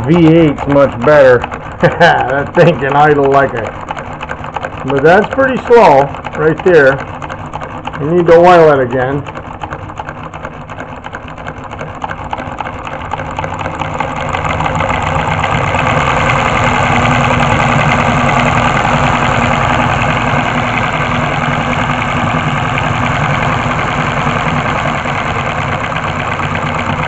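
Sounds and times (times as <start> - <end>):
solenoid engine clacking: 0.0 - 27.0.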